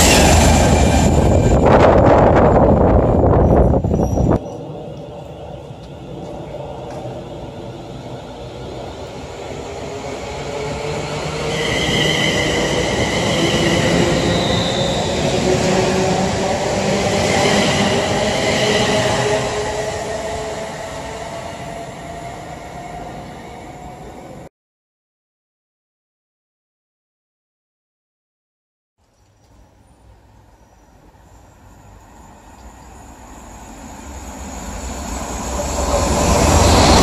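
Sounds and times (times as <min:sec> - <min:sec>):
train wheels rumbling on rails: 0:00.0 - 0:24.4, 0:30.2 - 0:37.0.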